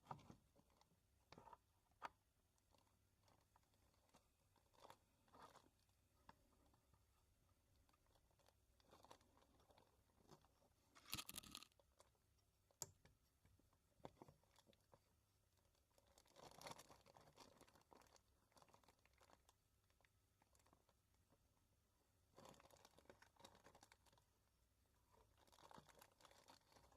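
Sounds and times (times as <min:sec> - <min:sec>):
faint rustles and clicks: 0:00.0 - 0:21.6, 0:22.2 - 0:26.9.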